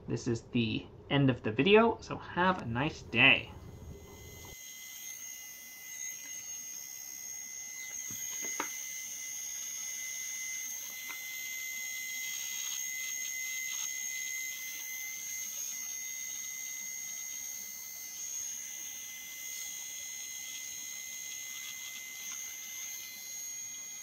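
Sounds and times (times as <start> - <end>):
small motor whining: 3.6 - 24.0.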